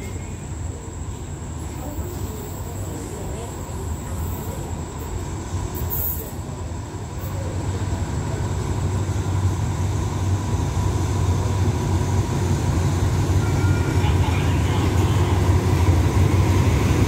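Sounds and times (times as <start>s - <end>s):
diesel locomotive engine rumble: 0.0s - 17.0s.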